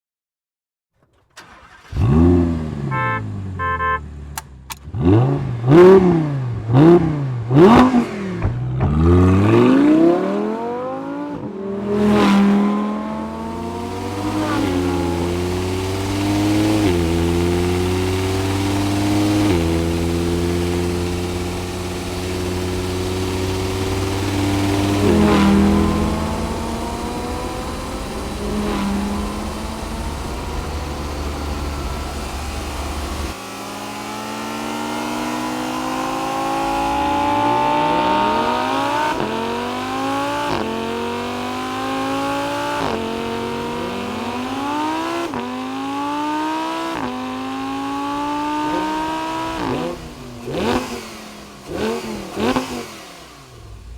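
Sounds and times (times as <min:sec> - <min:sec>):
car engine accelerating hard: 0:01.4 - 0:53.9.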